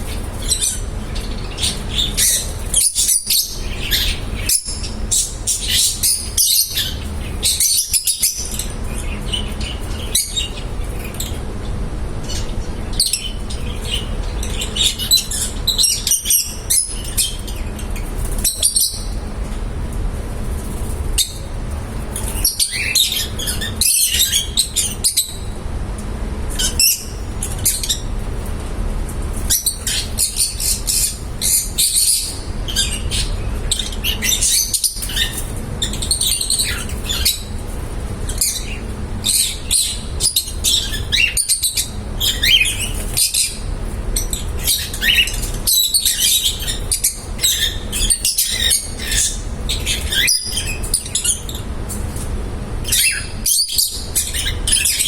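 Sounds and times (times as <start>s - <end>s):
parrots chirping and chattering: 0.0s - 25.7s, 26.4s - 55.0s
steady low hum: 0.0s - 55.0s.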